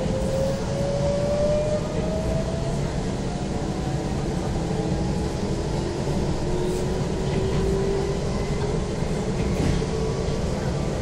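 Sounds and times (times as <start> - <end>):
train wheels and motors rumbling: 0.0 - 11.0.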